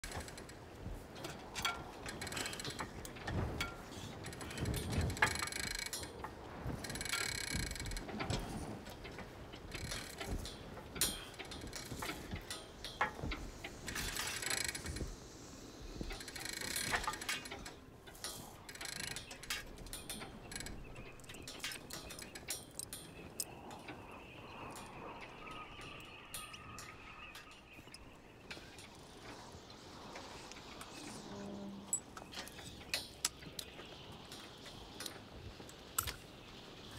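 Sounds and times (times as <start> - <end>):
deck winches clicking and ratcheting: 0.0 - 36.9.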